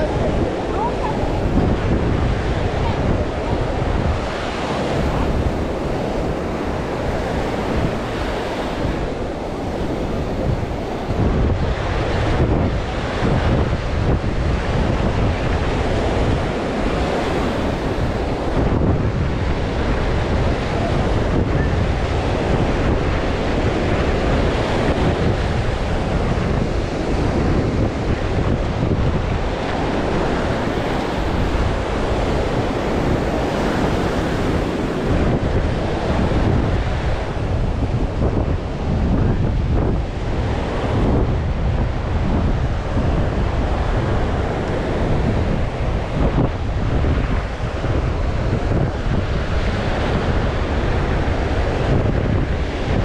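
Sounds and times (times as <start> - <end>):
surf washing on sandy beach: 0.0 - 53.0
wind buffeting microphone: 0.0 - 53.0.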